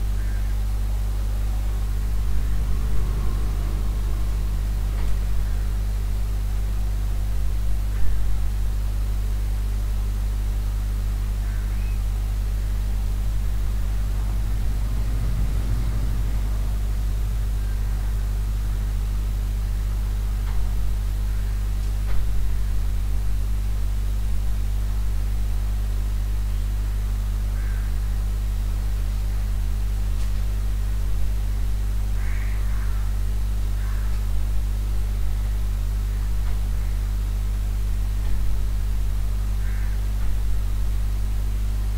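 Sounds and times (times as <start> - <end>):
constant hiss: 0.0 - 41.9
low electrical hum: 0.0 - 41.9.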